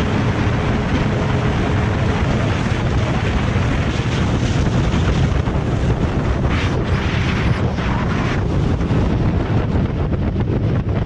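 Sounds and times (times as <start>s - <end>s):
road noise: 0.0s - 10.6s
wind rushing over microphone: 0.0s - 11.0s.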